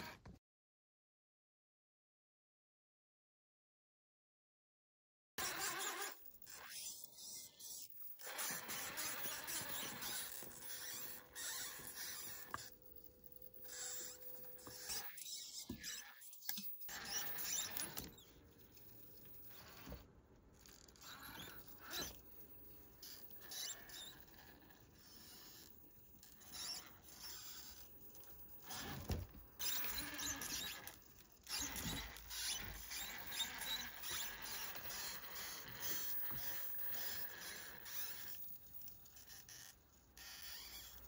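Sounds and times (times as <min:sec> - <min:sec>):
toy car tyres squeaking on wood: 0:05.4 - 0:41.0.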